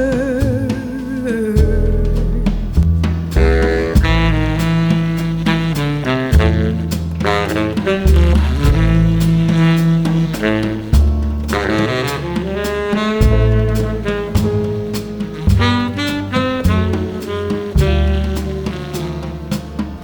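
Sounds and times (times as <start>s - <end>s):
acoustic bass notes: 0.0s - 20.0s
drum cymbals: 0.0s - 20.0s
baritone saxophone melody: 3.4s - 20.0s.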